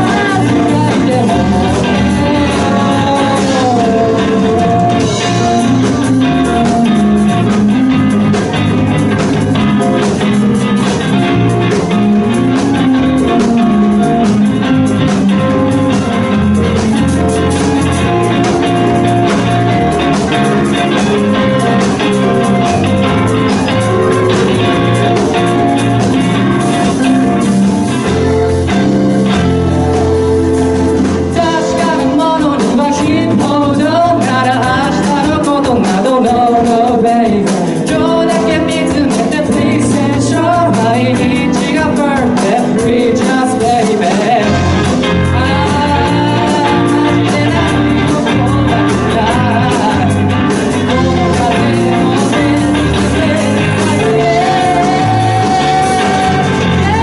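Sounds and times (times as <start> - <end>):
bass guitar: 0.0 - 57.0
drums: 0.0 - 57.0
guitar: 0.0 - 57.0
keyboard: 0.0 - 57.0
person singing: 0.0 - 57.0.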